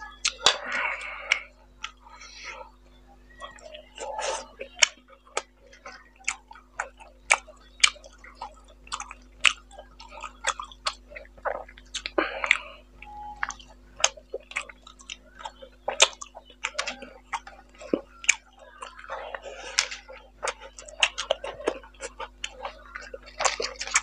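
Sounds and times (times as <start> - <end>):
chewing and lip-smacking: 0.0 - 24.0.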